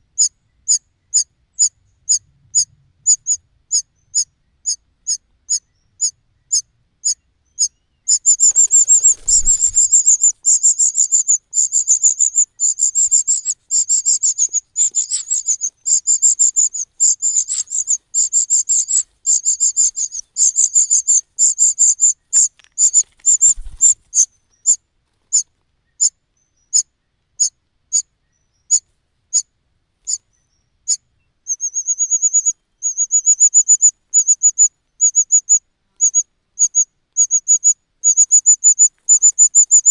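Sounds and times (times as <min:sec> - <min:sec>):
bird chick cheeping: 0:00.1 - 0:39.9.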